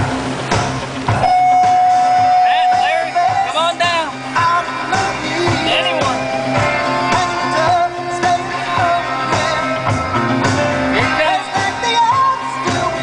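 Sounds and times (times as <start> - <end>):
rock and roll song: 0.6 - 13.0.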